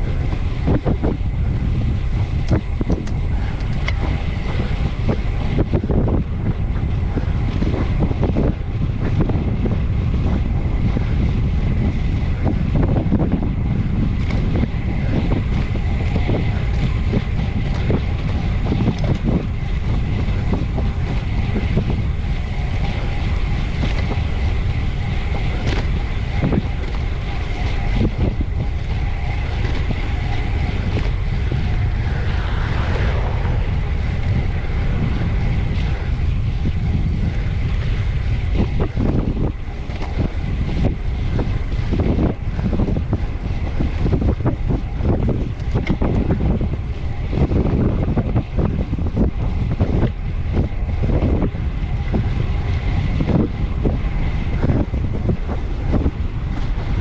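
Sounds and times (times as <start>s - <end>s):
bicycle tyre and road noise: 0.0s - 57.0s
wind buffeting microphone: 0.0s - 57.0s.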